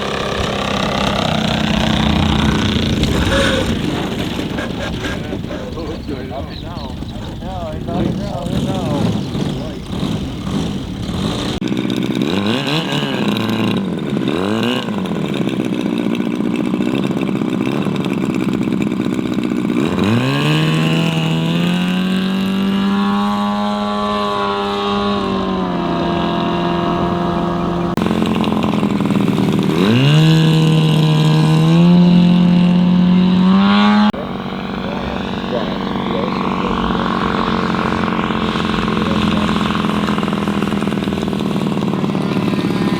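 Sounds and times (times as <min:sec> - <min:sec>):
model airplane engine running: 0:00.0 - 0:42.9.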